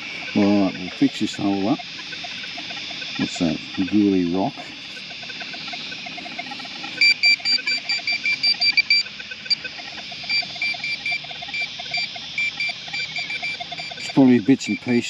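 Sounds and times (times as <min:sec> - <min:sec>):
metal detector beeping: 0:00.0 - 0:15.0.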